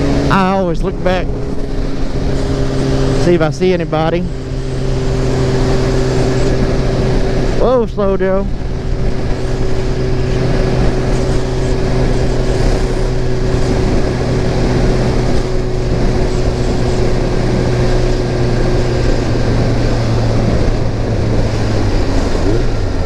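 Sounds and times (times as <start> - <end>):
constant noisy rush: 0.0 - 23.0
motorcycle engine running: 0.0 - 23.0.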